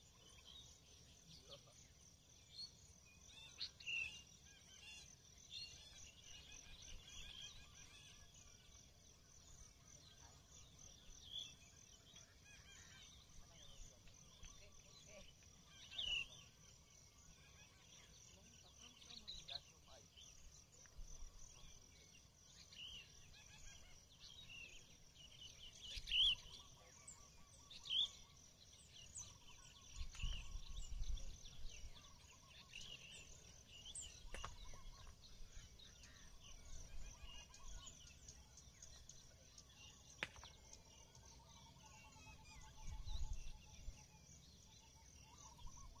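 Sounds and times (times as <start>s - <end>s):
birds chirping: 0.0s - 46.0s
insect trill: 0.0s - 46.0s.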